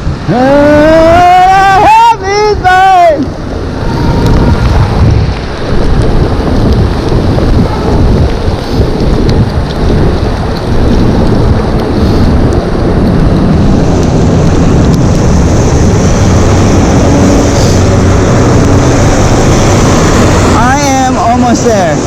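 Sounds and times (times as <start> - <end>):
rain: 0.0 - 22.0
wind buffeting microphone: 0.0 - 22.0.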